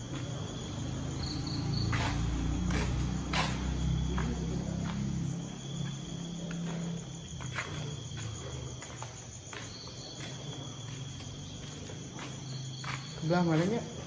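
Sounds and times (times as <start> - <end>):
footstep-like clicks: 0.0 - 13.1
crickets trilling: 0.0 - 14.0.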